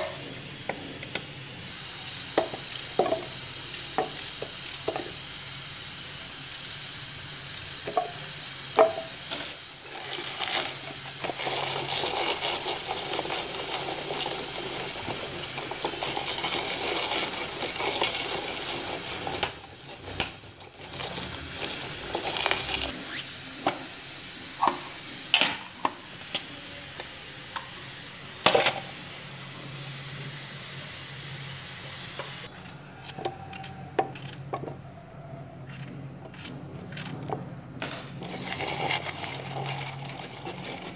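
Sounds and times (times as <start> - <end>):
loud high-pitched hiss: 0.0 - 40.9.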